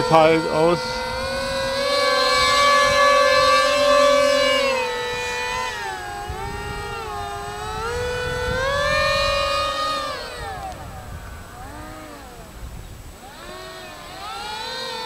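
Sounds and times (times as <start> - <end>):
wind rumble: 0.0 - 14.7
model plane motors whining: 0.0 - 15.0.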